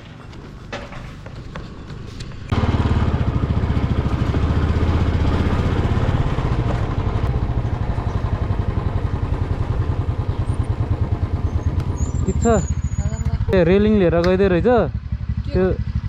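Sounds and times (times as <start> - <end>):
motorcycle engine running: 0.2 - 16.0.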